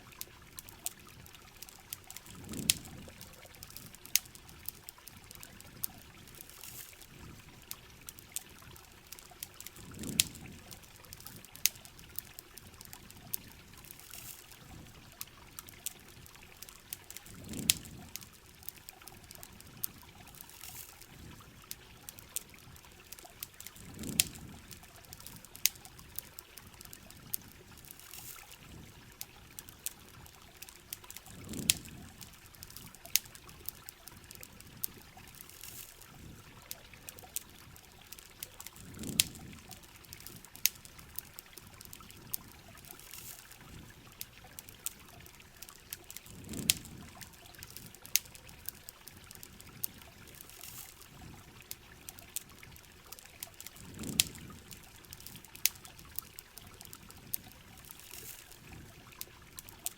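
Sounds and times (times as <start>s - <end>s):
campfire crackling pops: 0.0s - 59.9s
trickling water: 0.0s - 59.9s.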